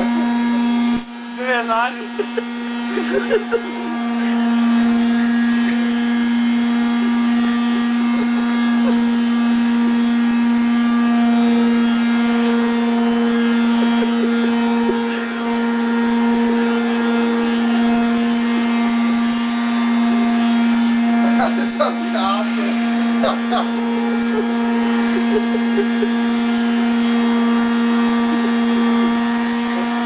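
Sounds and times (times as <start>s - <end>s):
vacuum cleaner motor whining hum: 0.0s - 30.0s.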